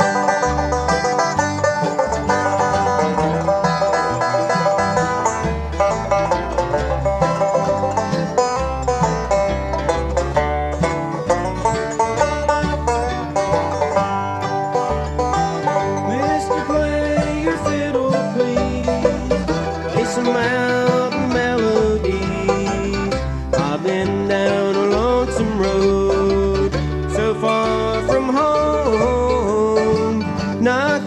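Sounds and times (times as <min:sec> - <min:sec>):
banjo: 0:00.0 - 0:31.0
bass: 0:00.0 - 0:31.0
bluegrass band playing: 0:00.0 - 0:31.0
guitar: 0:00.0 - 0:31.0
mandolin: 0:00.0 - 0:31.0.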